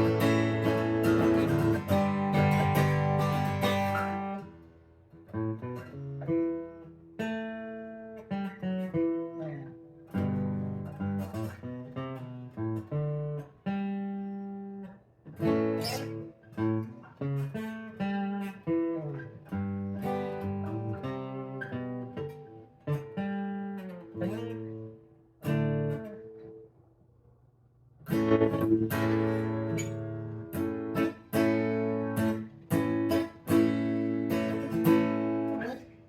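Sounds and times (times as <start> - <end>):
acoustic guitar chords and picked notes: 0.0 - 26.9, 28.0 - 36.0.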